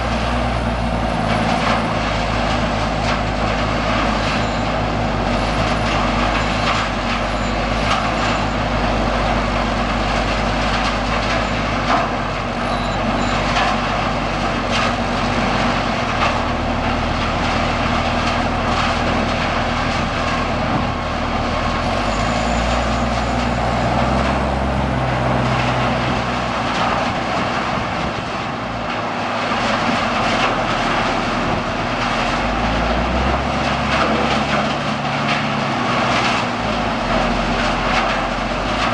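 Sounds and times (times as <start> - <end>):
machine drone: 0.0 - 38.9.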